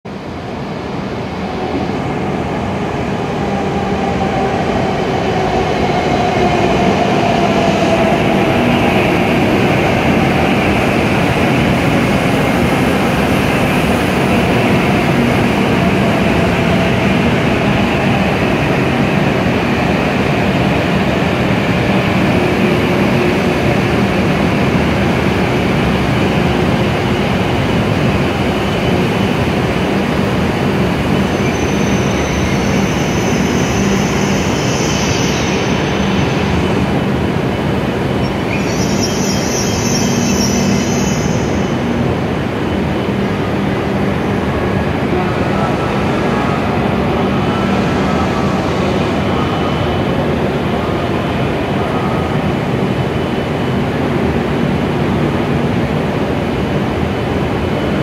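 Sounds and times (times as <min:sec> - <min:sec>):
train running noise: 0:00.1 - 0:58.0.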